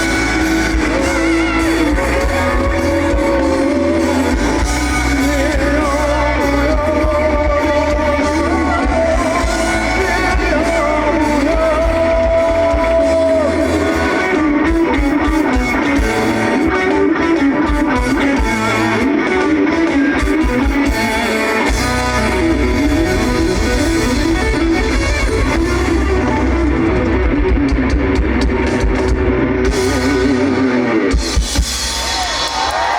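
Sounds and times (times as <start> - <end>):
deep bass: 0.0 - 19.3, 20.2 - 32.3
person singing: 0.0 - 27.0
live pop-rock band playing: 0.0 - 32.9.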